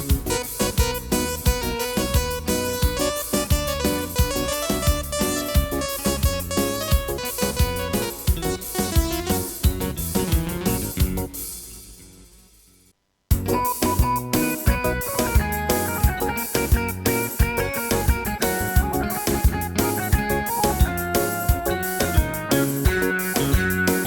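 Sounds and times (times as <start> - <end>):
bass: 0.0 - 11.9, 13.3 - 24.0
keyboard accompaniment music: 0.0 - 12.4, 13.3 - 24.0
steady drum beat: 0.0 - 12.4, 13.3 - 24.0.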